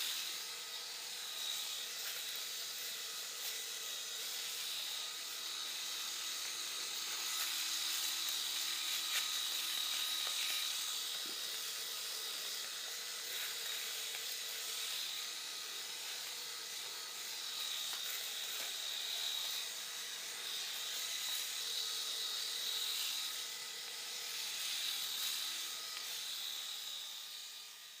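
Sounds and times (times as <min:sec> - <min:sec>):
electric razor buzzing: 0:00.0 - 0:28.0.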